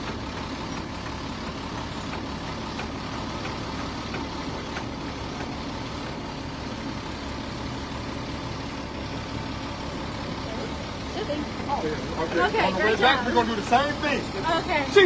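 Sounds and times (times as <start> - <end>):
road noise: 0.0 - 15.0
truck engine hum: 0.0 - 15.0.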